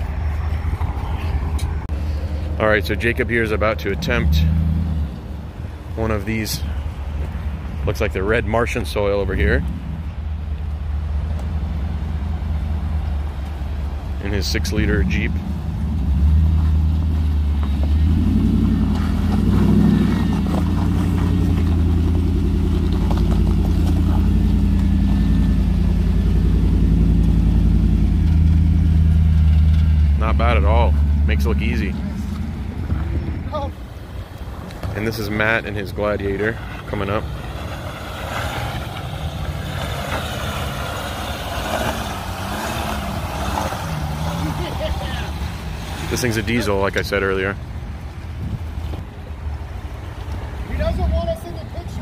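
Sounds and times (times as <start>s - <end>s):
car engine under load: 0.0s - 52.0s.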